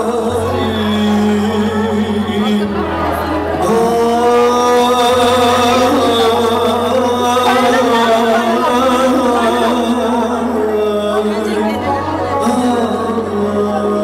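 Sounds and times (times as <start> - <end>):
live band playing folk melody: 0.0 - 14.0.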